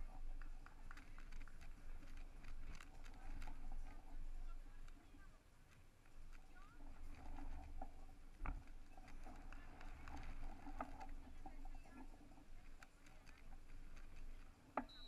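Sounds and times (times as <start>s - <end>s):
faint clicks: 0.0s - 15.0s.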